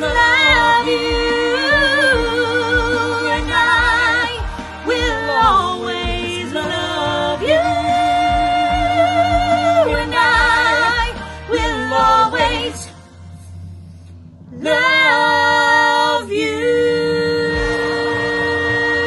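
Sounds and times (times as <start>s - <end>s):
woman and man singing duet: 0.0s - 13.0s, 14.5s - 19.0s.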